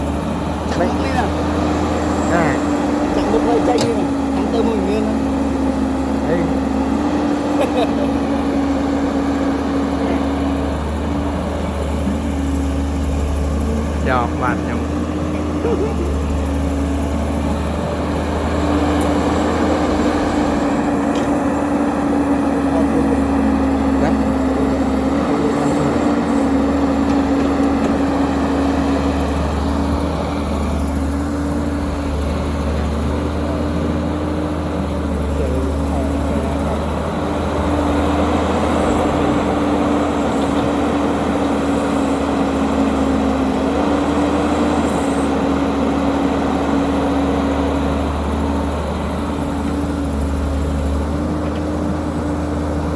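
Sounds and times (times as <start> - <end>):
heavy diesel engine droning: 0.0 - 52.9.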